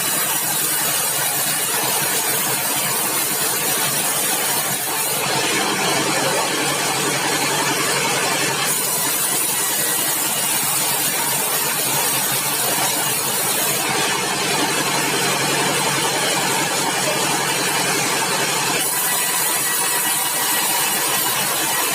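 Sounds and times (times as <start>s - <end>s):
sawmill engine running: 0.0s - 21.9s.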